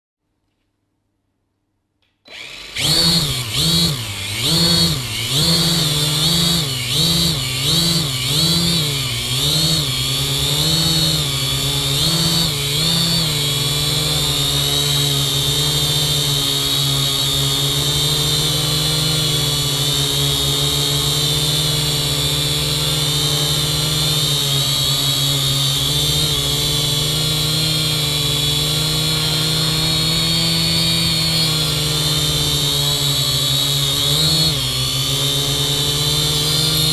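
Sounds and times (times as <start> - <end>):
drone propellers whining: 2.3 - 36.9.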